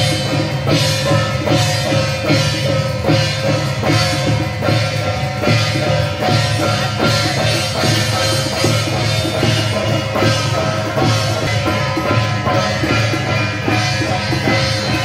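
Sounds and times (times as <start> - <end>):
quick steady drumbeat: 0.0 - 15.0.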